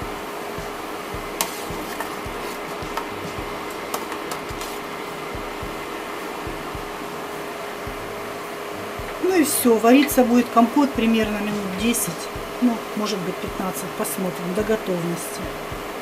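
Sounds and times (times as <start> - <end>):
induction hob humming: 0.0 - 16.0.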